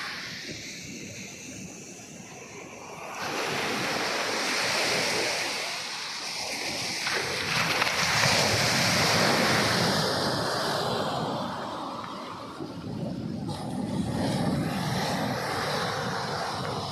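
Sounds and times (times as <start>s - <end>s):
sea waves washing onto shore: 0.0s - 16.9s.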